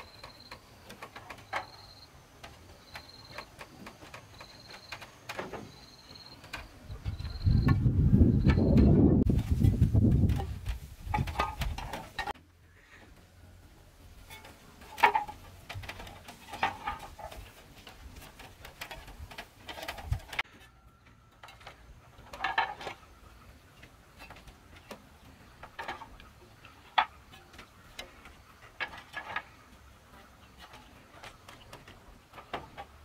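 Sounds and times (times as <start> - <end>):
clay roof tiles clacking: 0.0 - 33.0.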